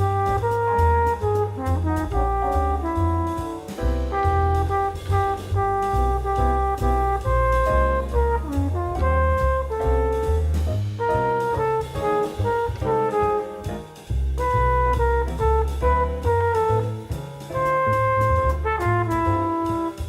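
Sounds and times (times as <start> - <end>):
bass line: 0.0 - 20.0
horns playing melody: 0.0 - 20.0
steady drum beat: 0.0 - 20.0.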